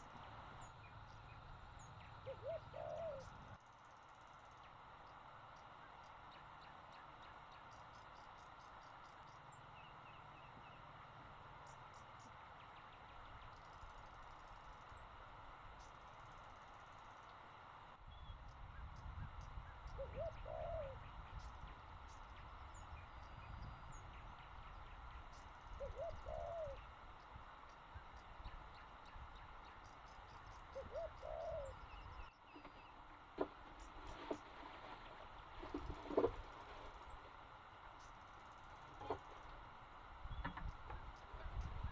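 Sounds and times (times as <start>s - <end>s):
faint bird calls: 0.0s - 17.4s, 18.0s - 39.6s
steady low hiss: 0.0s - 41.9s.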